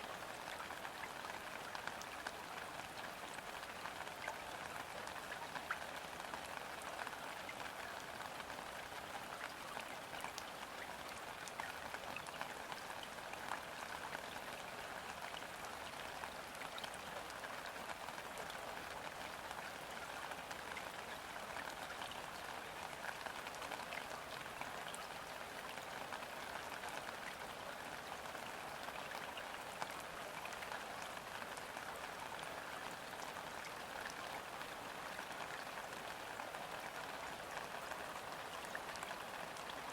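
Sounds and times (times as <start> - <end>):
rain pattering on water: 0.0 - 39.9.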